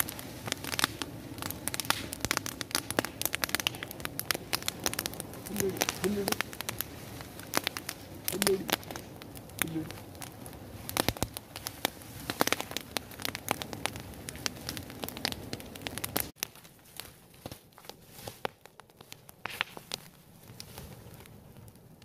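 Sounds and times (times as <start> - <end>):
fire of straw crackling: 0.0 - 22.0.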